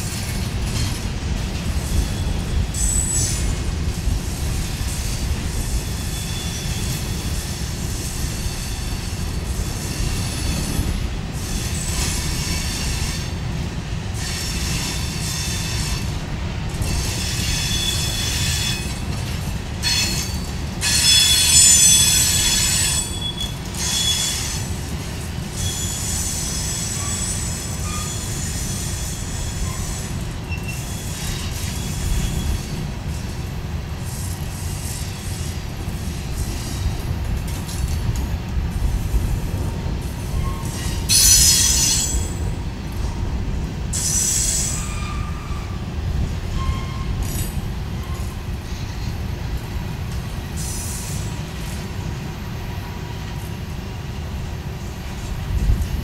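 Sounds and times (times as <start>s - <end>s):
train wheels squealing: 0.0s - 13.4s, 14.2s - 33.4s, 34.0s - 37.1s, 39.1s - 43.3s, 43.9s - 49.3s, 50.2s - 52.2s
freight train rumbling past: 0.0s - 56.0s.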